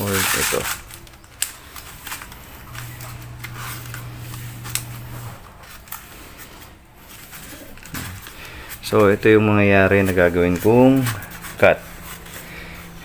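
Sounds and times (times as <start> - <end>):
low steady hum: 0.6 - 13.0.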